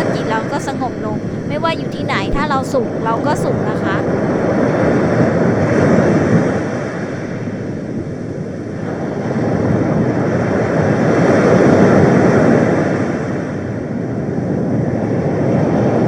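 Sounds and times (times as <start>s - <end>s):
sea waves washing in: 0.0s - 14.0s.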